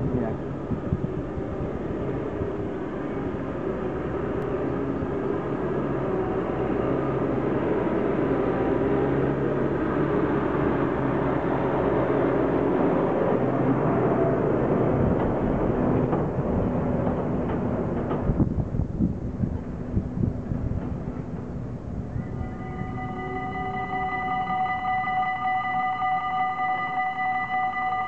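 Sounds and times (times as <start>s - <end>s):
electric train approaching: 0.0s - 28.0s.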